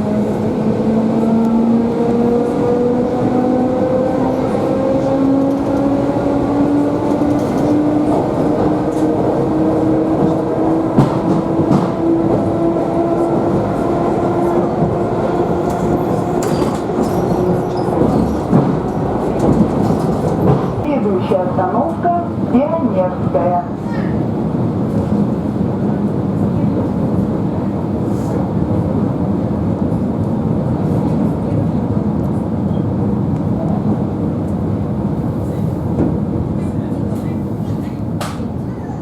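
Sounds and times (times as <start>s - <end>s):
train running rumble: 0.0s - 39.0s.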